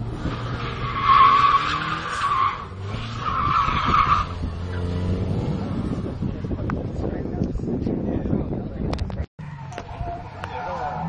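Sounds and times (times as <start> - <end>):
car tyres screeching: 0.0 - 8.0, 9.4 - 11.0.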